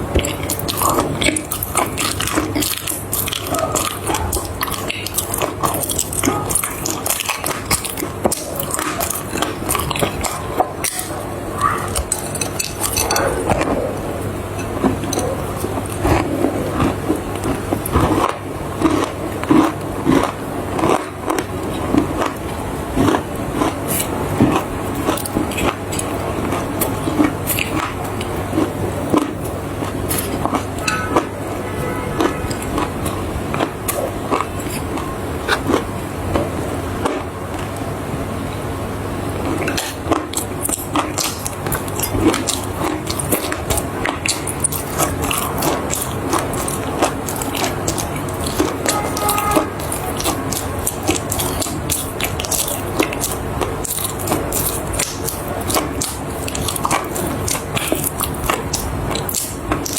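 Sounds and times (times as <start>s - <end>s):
clay being chewed with crunches: 0.0s - 31.4s, 32.2s - 37.8s, 39.3s - 59.9s
steady low hum: 0.0s - 59.9s.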